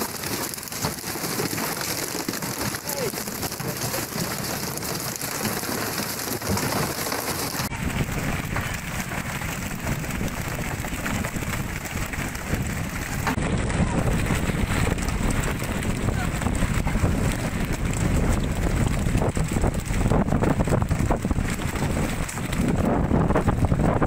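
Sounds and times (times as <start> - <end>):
sea water rumbling: 0.0 - 24.0.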